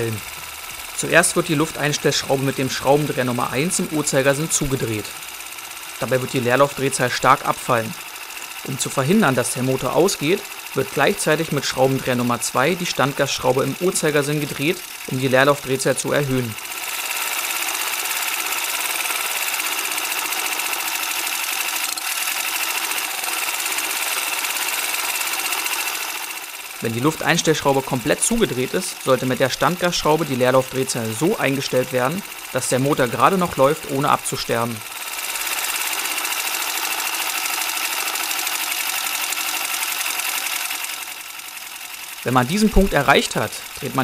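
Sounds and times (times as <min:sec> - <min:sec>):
scooter engine idling: 0:00.0 - 0:44.0.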